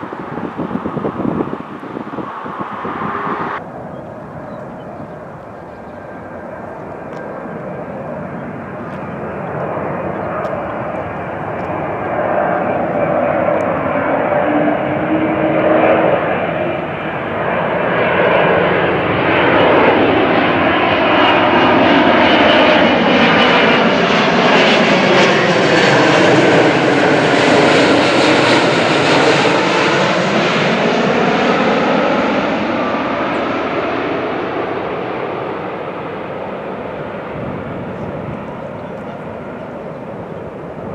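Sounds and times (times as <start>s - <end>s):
jet engines passing close: 0.0s - 40.9s.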